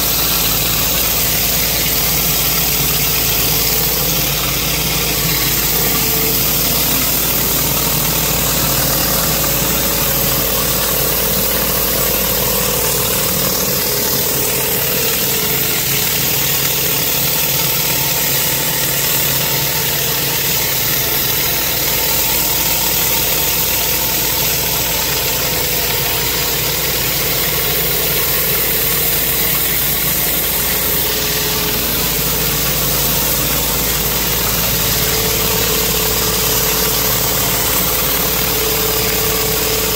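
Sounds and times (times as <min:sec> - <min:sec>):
pressure washer engine running: 0:00.0 - 0:39.9
water spray hissing on concrete: 0:00.0 - 0:39.9.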